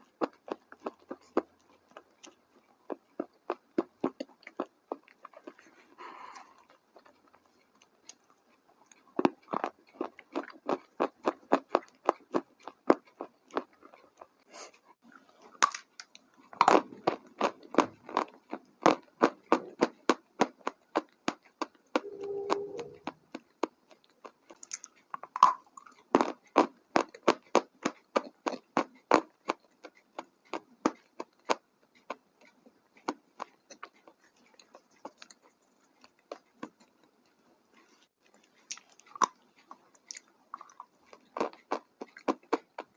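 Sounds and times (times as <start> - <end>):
crunchy food being chewed: 0.0 - 42.9.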